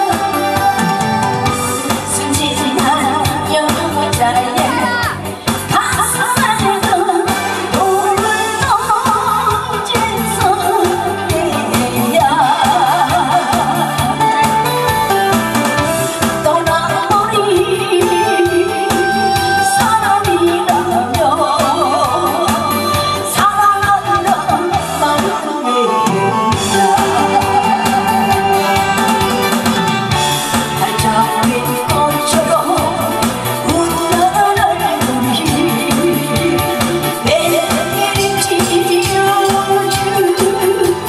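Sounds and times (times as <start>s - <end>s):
backing track with steady beat: 0.0s - 41.0s
woman singing with vibrato: 0.0s - 41.0s.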